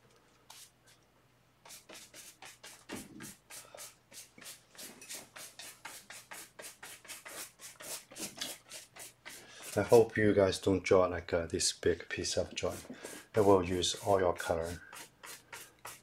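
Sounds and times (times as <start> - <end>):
paintbrush scrubbing on canvas: 0.5 - 0.7, 1.6 - 10.2, 11.8 - 16.0.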